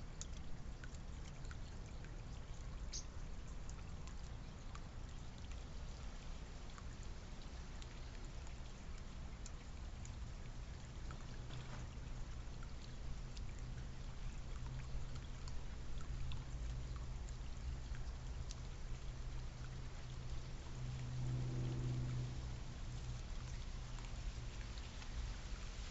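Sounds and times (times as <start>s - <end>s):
faint ticks: 0.0s - 25.9s
water trickling and pouring: 0.0s - 25.9s.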